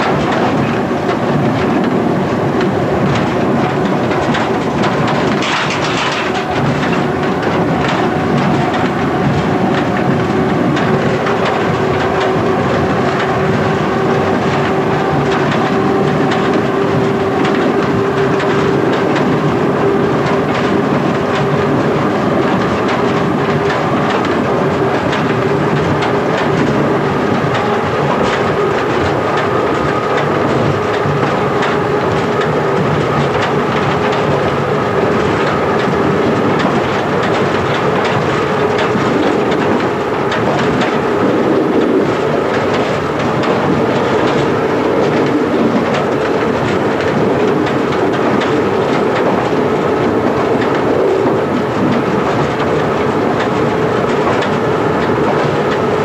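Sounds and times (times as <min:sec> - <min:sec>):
train rumble: 0:00.0 - 0:56.0
train wheels clickety-clack: 0:00.0 - 0:56.0.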